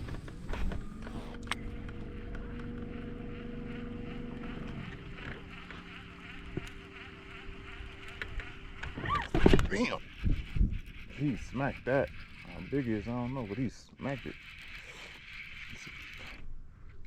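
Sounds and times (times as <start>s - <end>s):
electric trolling motor whining: 0.0s - 17.0s.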